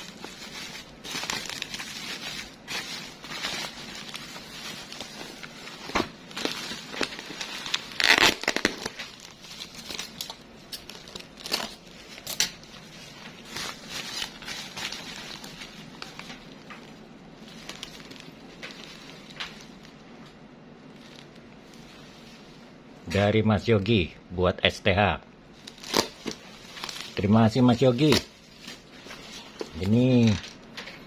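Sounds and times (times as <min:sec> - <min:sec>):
bubble wrap crinkling: 0:00.0 - 0:22.7, 0:25.5 - 0:30.8.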